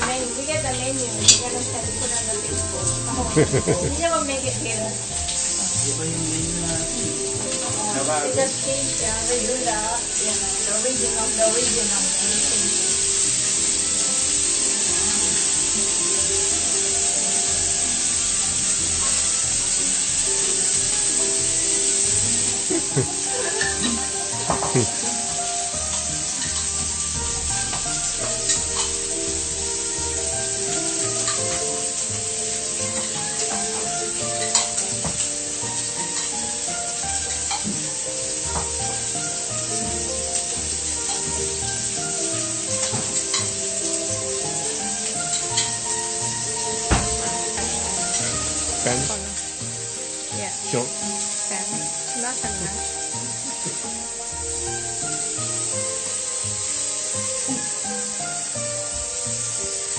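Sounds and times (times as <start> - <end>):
background music: 0.0 - 59.9
food sizzling in a hot pan: 0.0 - 59.9.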